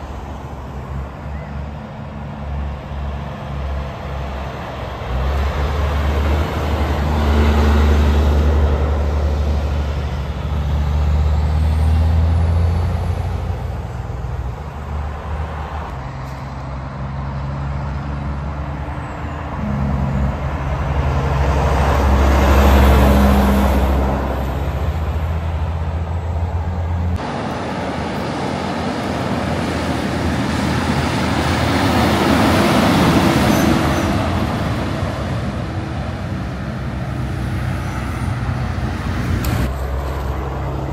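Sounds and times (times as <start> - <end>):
heavy trucks passing: 0.0 - 40.9.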